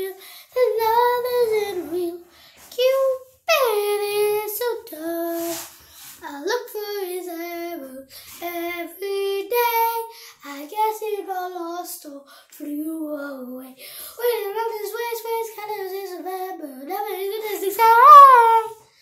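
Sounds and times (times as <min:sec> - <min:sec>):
girl singing unaccompanied: 0:00.0 - 0:19.0.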